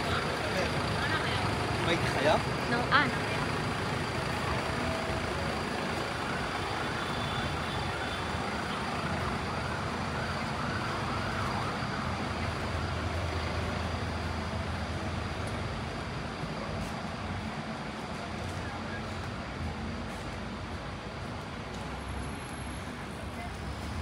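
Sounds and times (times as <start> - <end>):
city street traffic: 0.0 - 24.0
faint emergency siren: 0.0 - 24.0
vehicle engine hum: 0.0 - 24.0.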